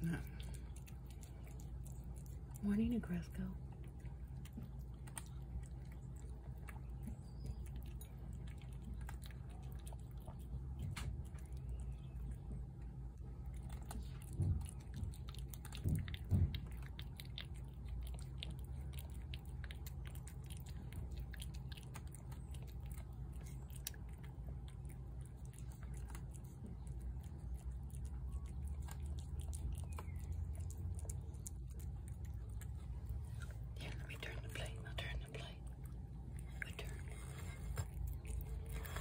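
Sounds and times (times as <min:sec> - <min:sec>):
cat chewing wet food: 0:00.0 - 0:39.0.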